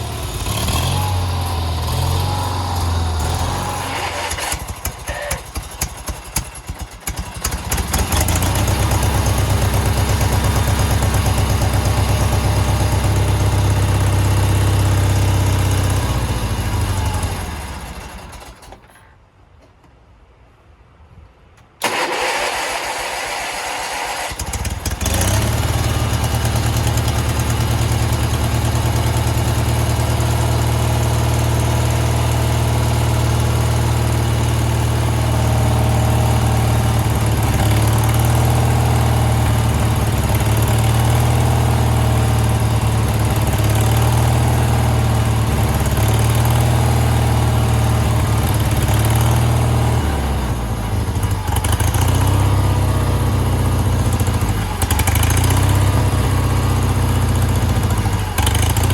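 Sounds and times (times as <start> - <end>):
engine cranking and idling: 0.0 - 19.1, 21.6 - 58.9.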